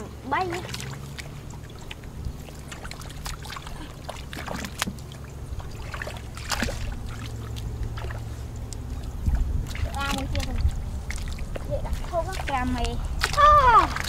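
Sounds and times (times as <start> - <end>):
low rumble: 0.0 - 14.0
hands splashing in muddy water: 0.4 - 14.0.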